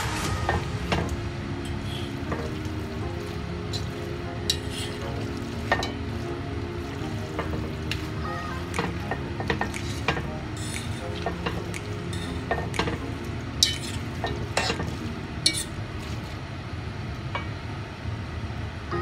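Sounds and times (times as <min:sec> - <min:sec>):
utensils scraping and clinking on pan: 0:00.0 - 0:16.4
low sizzle: 0:00.0 - 0:19.0.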